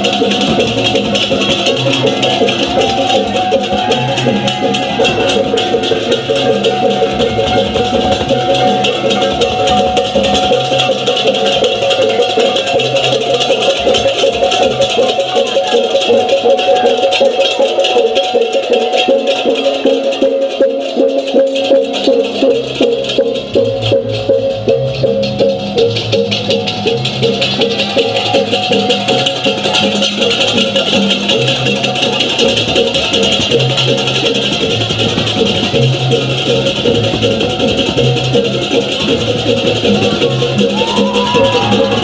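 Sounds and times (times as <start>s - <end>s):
gamelan ensemble playing: 0.0s - 42.0s.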